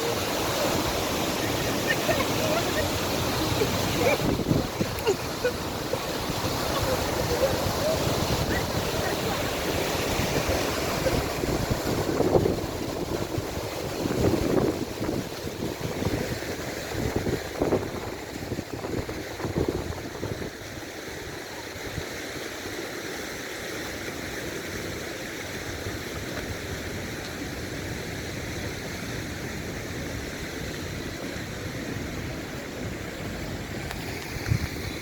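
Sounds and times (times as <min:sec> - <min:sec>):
waterfall rushing: 0:00.0 - 0:35.0
wind gusts on microphone: 0:00.0 - 0:35.0.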